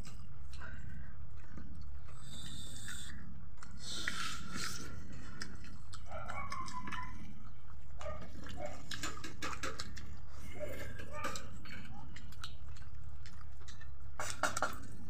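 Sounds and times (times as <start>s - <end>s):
steady low hum: 0.0s - 15.0s
wet chewing and lip smacking: 0.0s - 15.0s.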